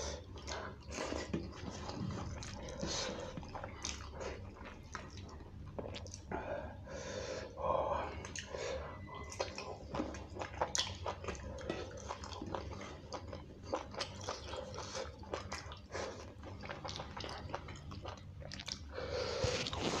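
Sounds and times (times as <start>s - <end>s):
wet chewing and mouth noises: 0.0s - 6.4s, 8.1s - 20.0s.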